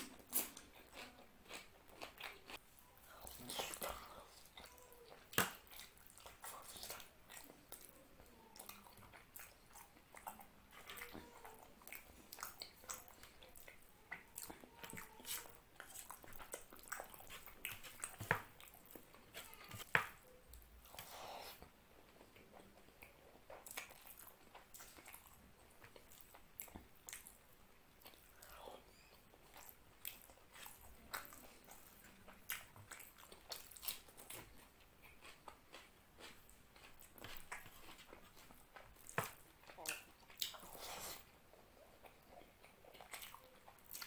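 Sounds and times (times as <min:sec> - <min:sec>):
chewing and lip-smacking: 0:00.0 - 0:44.0.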